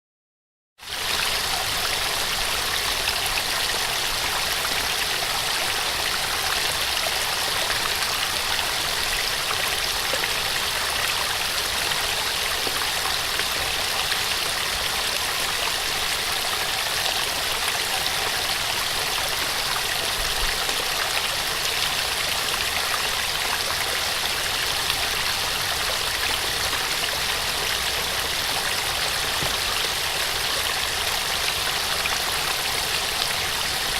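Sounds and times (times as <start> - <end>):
waterfall splashing and rushing: 0.9 - 33.9.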